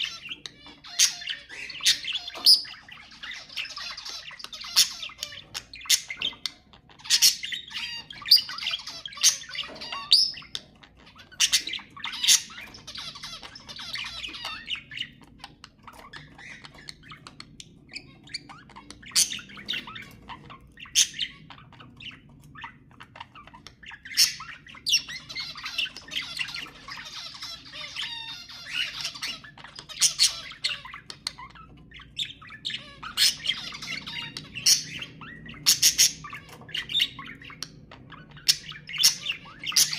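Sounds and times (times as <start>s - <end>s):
budgerigar squawks and chirps: 0.0s - 39.9s
budgerigar warbling chatter: 0.0s - 39.9s.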